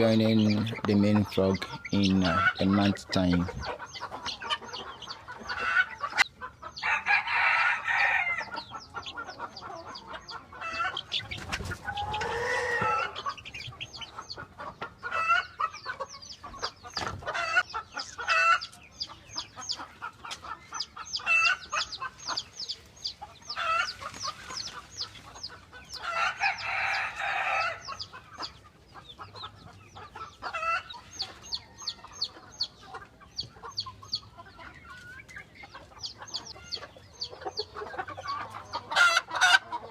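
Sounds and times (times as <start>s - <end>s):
chickens calling: 0.0s - 39.9s
chicks peeping: 0.0s - 39.9s.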